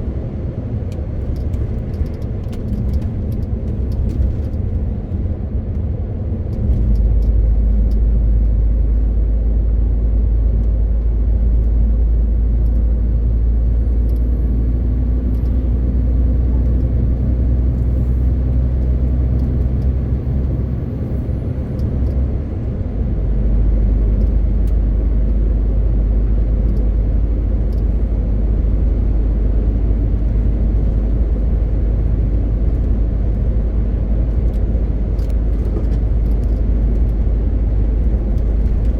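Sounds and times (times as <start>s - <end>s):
road noise: 0.0s - 38.9s
truck diesel engine drone: 0.0s - 38.9s.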